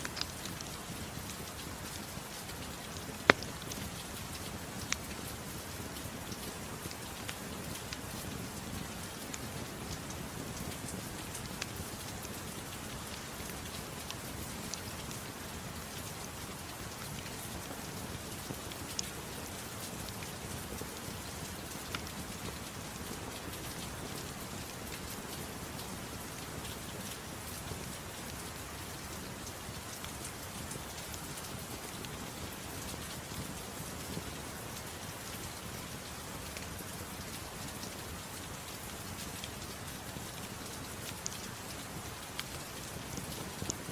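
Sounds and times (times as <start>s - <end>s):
soft rain: 0.0s - 43.9s.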